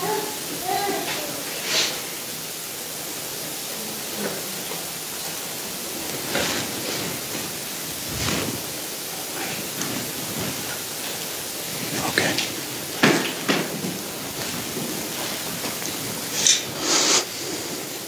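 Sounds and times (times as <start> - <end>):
room tone hiss: 0.0 - 18.0.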